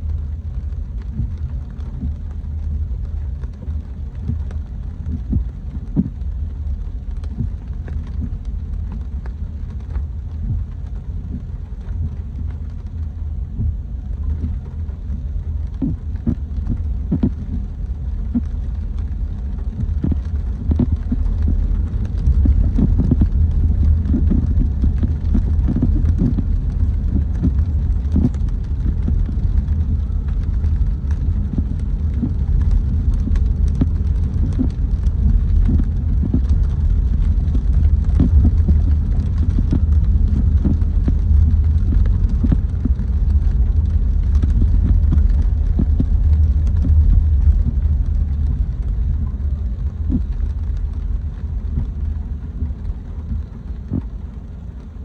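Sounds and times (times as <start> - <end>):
car engine and tyres rumbling: 0.0 - 55.0
raindrops ticking: 0.0 - 55.0.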